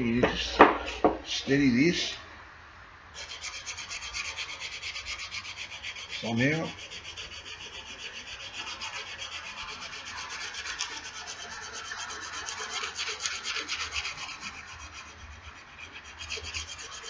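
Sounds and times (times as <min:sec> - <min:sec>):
sandpaper rubbing on axe head: 0:03.2 - 0:17.0.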